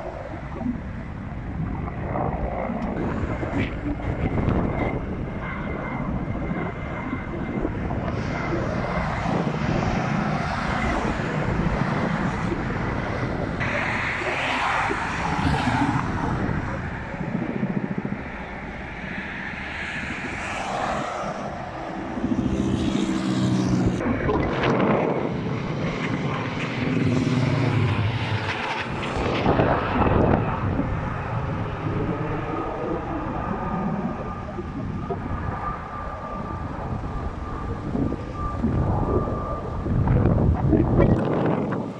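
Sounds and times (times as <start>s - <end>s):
propeller plane engine drone: 0.0s - 41.9s
wind: 0.0s - 41.9s.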